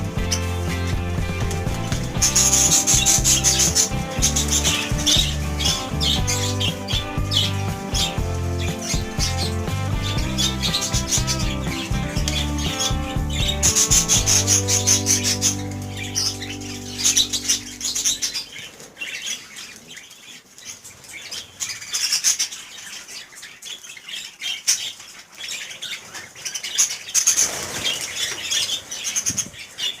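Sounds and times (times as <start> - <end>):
wings flapping: 0.0 - 22.5, 24.9 - 29.8
birds chirping and squawking: 0.0 - 30.0.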